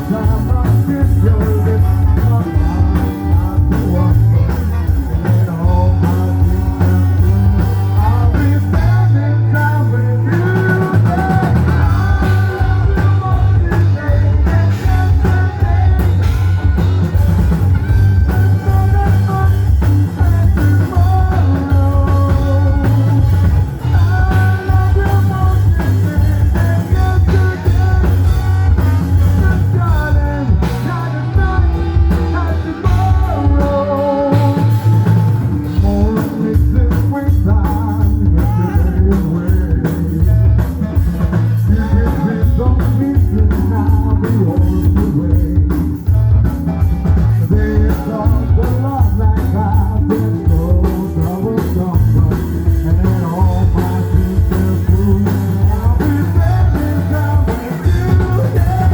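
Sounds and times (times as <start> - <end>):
rock music with singer: 0.0 - 58.9.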